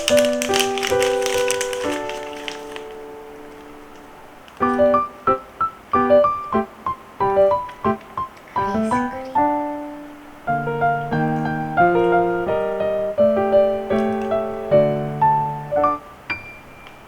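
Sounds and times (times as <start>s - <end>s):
gentle solo piano piece: 0.0s - 17.0s.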